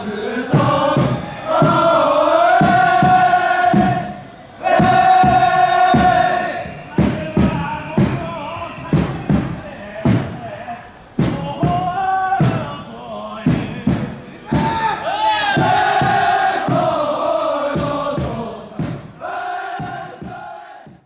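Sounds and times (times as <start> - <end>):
voices chanting long notes: 0.0 - 10.4, 11.4 - 21.0
drum struck steadily: 0.0 - 15.0, 15.6 - 21.0.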